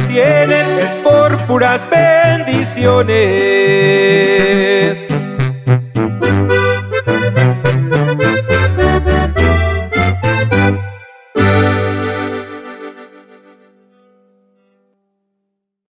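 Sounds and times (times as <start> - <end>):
accordion over bass line: 0.0 - 13.8.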